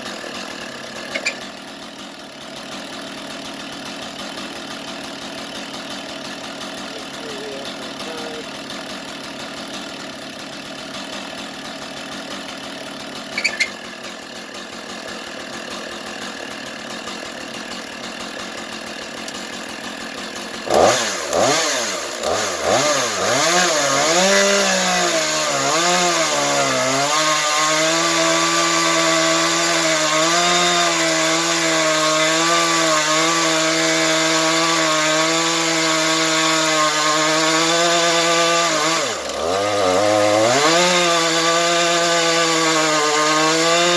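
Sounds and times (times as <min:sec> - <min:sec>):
chainsaw revving and cutting wood: 0:00.0 - 0:43.9.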